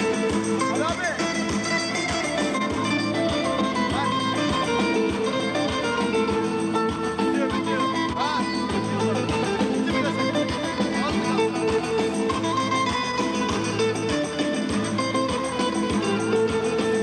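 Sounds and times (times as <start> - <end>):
instrumental music with plucked strings: 0.0 - 17.0.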